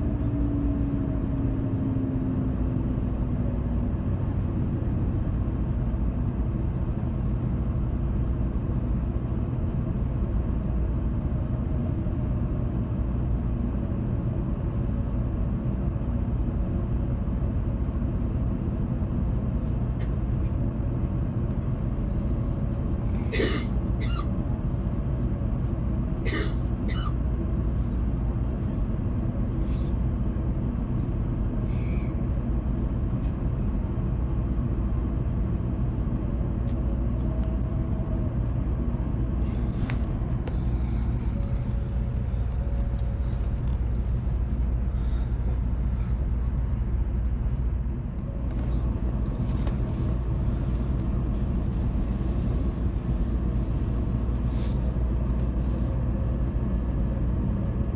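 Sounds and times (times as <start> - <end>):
train car hum and rumble: 0.0 - 57.9.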